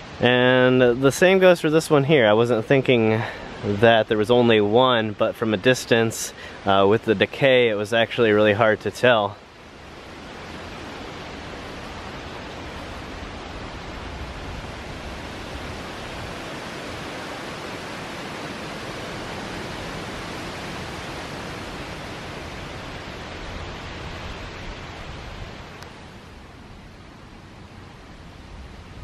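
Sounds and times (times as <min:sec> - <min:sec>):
wind through trees: 0:00.0 - 0:29.0.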